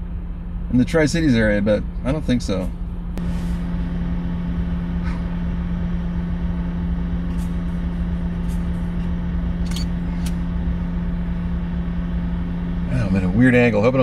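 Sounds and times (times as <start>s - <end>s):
car engine hum: 0.0s - 14.0s
road rumble: 0.0s - 14.0s.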